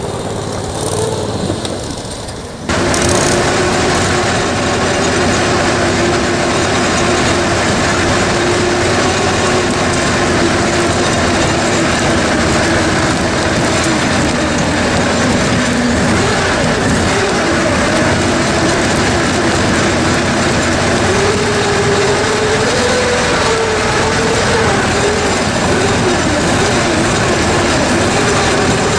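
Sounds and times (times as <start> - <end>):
rushing and rattling noise: 0.0 - 28.9
vehicle engine running: 0.0 - 28.9.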